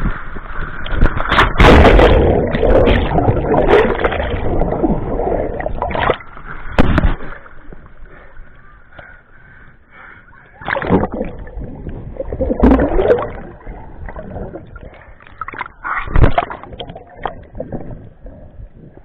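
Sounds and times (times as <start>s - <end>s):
lake water splashing: 1.1s - 17.8s.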